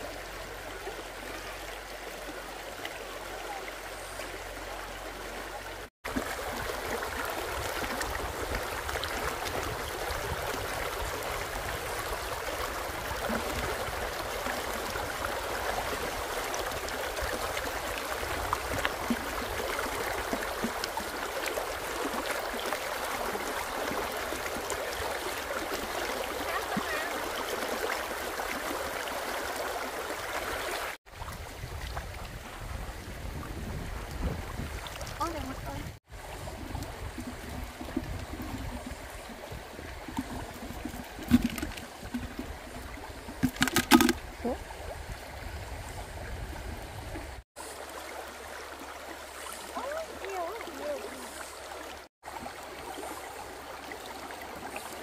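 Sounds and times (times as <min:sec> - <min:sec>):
water running in a stream: 0:00.0 - 0:55.0.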